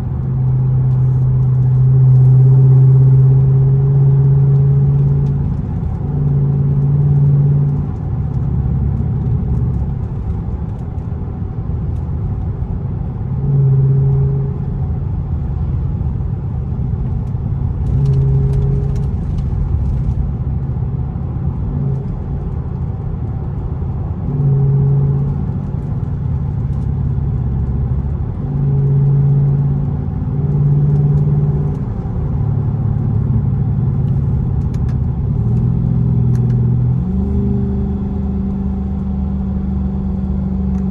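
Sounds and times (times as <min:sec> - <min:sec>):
loud car exhaust drone: 0:00.0 - 0:40.9.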